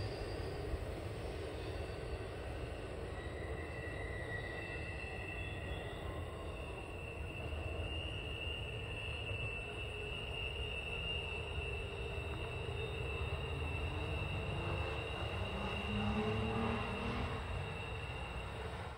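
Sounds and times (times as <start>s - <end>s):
freight train cars rumbling: 0.0s - 18.9s.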